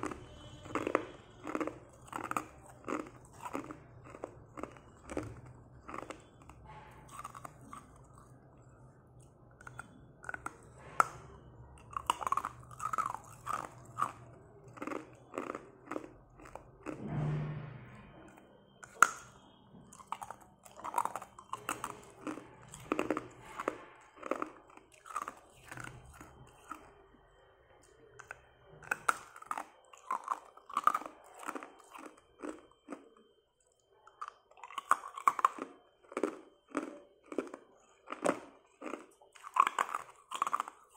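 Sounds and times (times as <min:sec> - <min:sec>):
ice crunching between teeth: 0:00.0 - 0:08.3, 0:09.6 - 0:17.0, 0:20.0 - 0:26.9, 0:28.2 - 0:33.2, 0:34.2 - 0:40.9.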